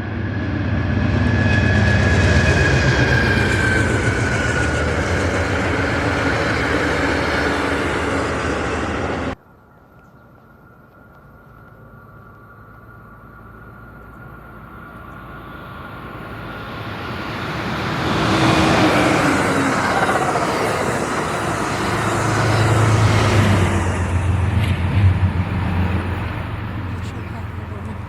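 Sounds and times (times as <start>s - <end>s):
diesel locomotive passing: 0.0s - 9.4s, 11.7s - 28.0s
train wheels on rails: 0.0s - 9.4s, 14.8s - 28.0s
locomotive low drone: 0.0s - 28.0s.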